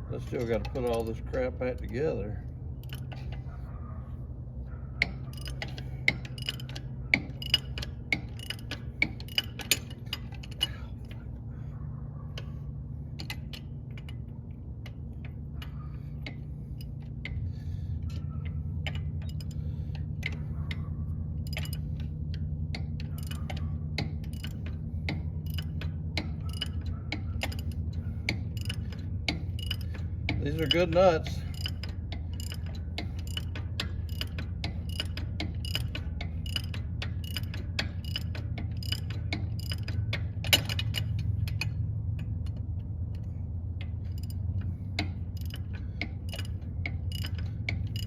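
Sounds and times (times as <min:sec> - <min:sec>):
low hum: 0:00.0 - 0:48.0
ratchet wrench clicking: 0:00.2 - 0:03.6, 0:05.0 - 0:11.2, 0:12.4 - 0:48.0.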